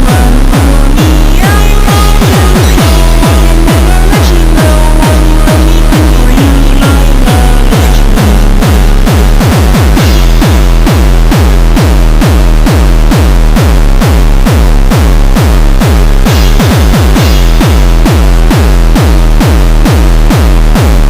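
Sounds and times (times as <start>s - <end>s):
distorted bass-boosted electronic music: 0.0s - 21.0s.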